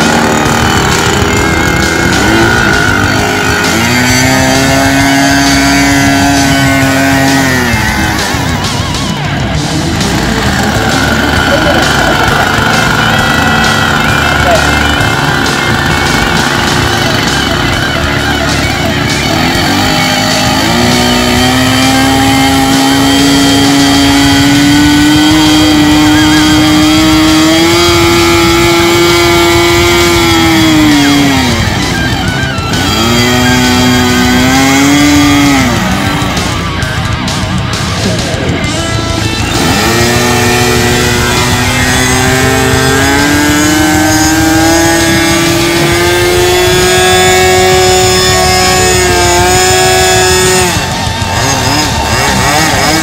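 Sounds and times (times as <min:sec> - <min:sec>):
model plane engine running: 0:00.0 - 0:53.0.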